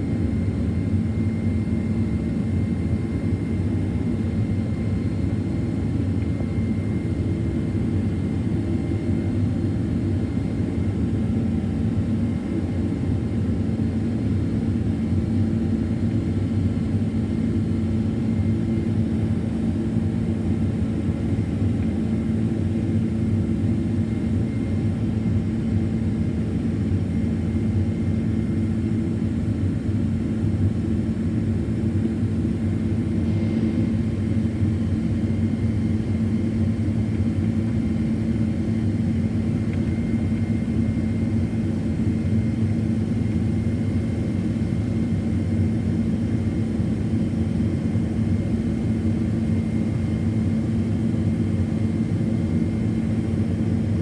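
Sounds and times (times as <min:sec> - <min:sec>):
faint steady whine: 0:00.0 - 0:54.0
jet engine cabin drone: 0:00.0 - 0:54.0.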